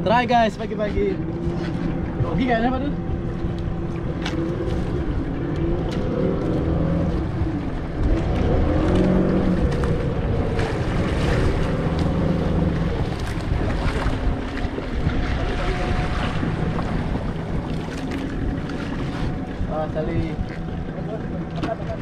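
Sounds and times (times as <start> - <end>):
boat engine running: 0.0 - 22.0
water around hull: 0.0 - 22.0
wind on microphone: 0.0 - 22.0.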